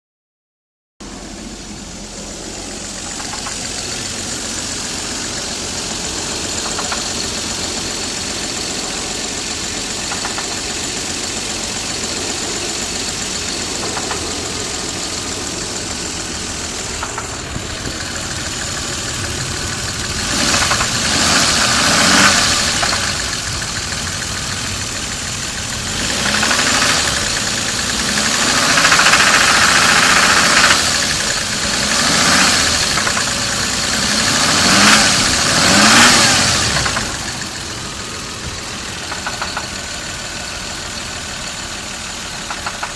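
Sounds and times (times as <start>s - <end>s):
car engine idling with knock: 1.0s - 42.9s
engine revving: 1.0s - 42.9s.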